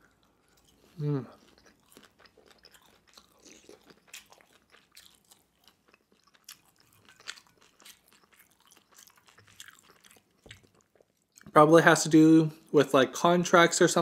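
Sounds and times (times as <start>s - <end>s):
chewing with wet mouth smacks: 0.0s - 11.6s.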